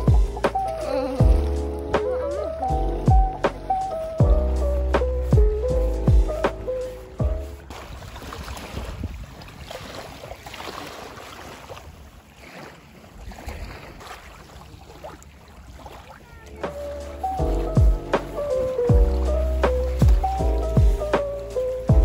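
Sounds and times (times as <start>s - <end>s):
light wind: 0.0s - 22.0s
waves lapping on a beach: 0.0s - 22.0s.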